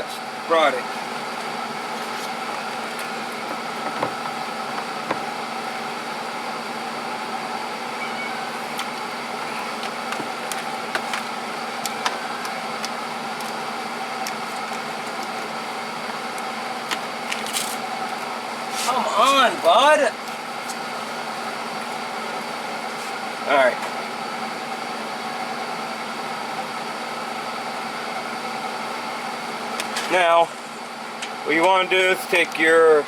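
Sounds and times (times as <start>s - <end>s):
machine hum: 0.0s - 32.6s.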